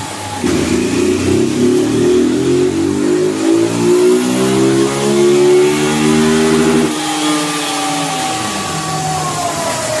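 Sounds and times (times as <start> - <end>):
motorcycle engine at full throttle: 0.0 - 10.0.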